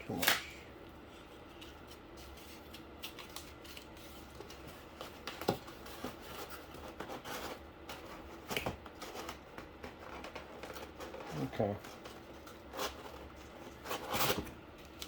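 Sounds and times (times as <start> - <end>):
cardboard and paper rustling: 1.1 - 15.0.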